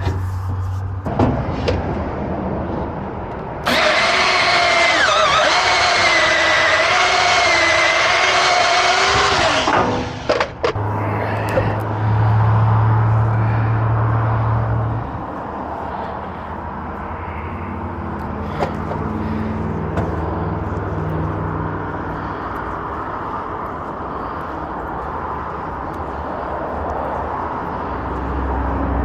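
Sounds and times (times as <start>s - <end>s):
engine-like drone: 0.0s - 29.0s.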